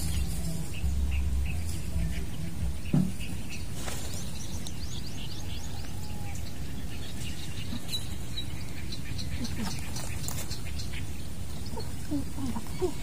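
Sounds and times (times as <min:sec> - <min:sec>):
low outdoor background noise: 0:00.0 - 0:13.0
small bird chirping: 0:00.0 - 0:13.0.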